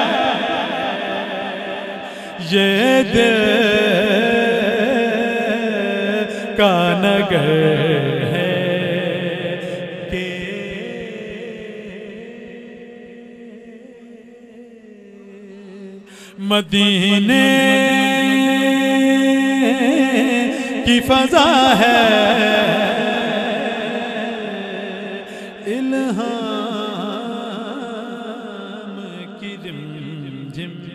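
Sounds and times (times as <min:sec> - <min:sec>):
man chanting over loudspeaker: 0:00.0 - 0:30.9.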